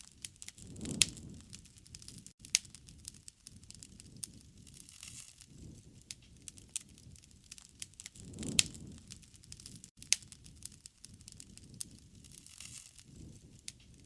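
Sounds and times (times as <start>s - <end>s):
wood fire crackling: 0.0s - 14.0s
low rush of flame: 0.1s - 14.0s
sharp pops of fire: 0.1s - 14.0s.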